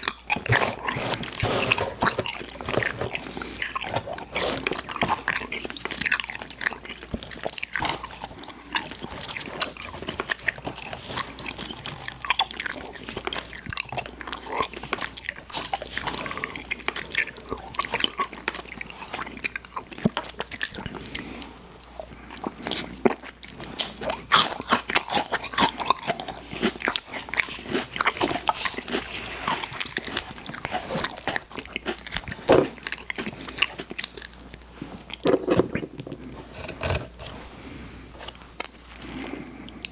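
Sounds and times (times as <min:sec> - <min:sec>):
chewing and crunching candy: 0:00.0 - 0:37.4, 0:38.2 - 0:39.9.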